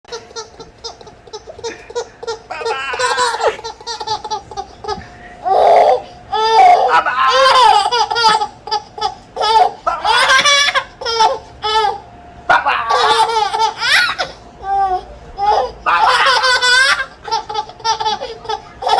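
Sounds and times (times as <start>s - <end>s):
baby laughing: 0.1s - 18.9s.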